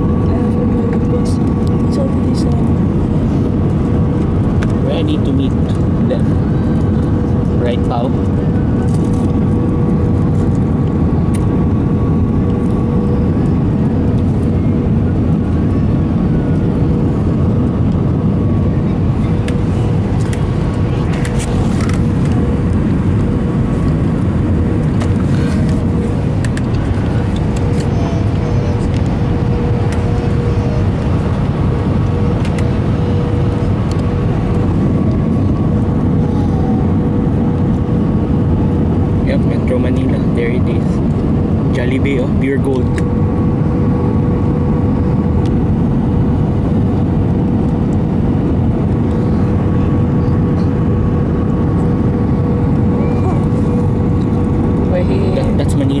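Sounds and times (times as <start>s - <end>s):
airplane cabin engine rush: 0.0s - 56.0s
steady whine: 0.0s - 56.0s.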